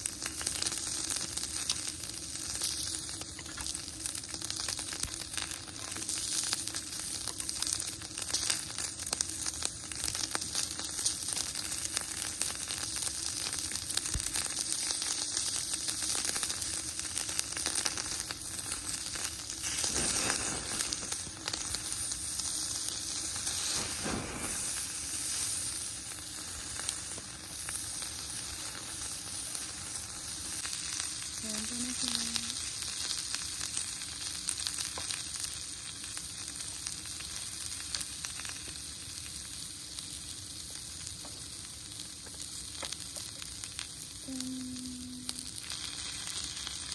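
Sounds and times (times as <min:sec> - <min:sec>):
food sizzling in a hot pan: 0:00.0 - 0:46.9.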